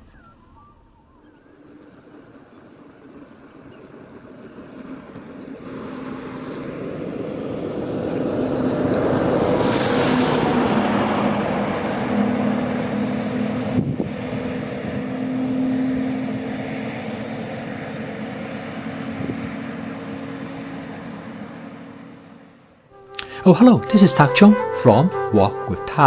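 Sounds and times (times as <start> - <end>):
truck passing by: 1.2 - 26.0.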